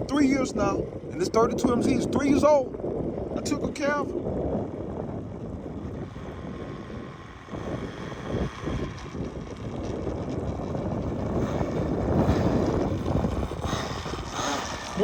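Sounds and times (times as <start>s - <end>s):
vehicle engine: 0.0s - 15.0s
wind rumbling on microphone: 0.0s - 15.0s.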